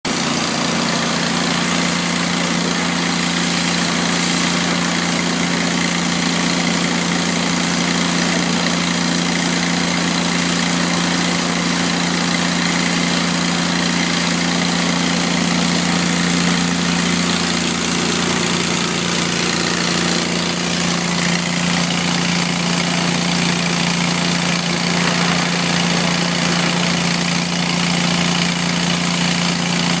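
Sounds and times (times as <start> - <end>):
pump motor hum: 0.0 - 30.0
water jet hissing: 0.1 - 30.0.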